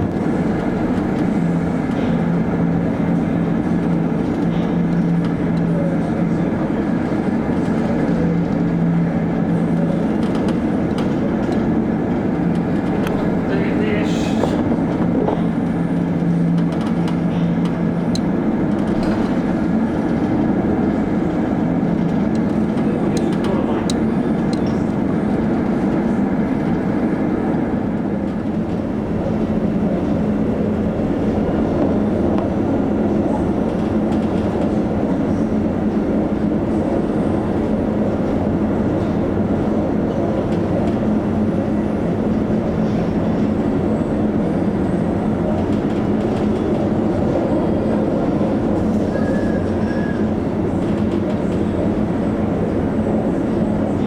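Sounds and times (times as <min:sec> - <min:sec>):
ship rumble and low hum: 0:00.0 - 0:54.0.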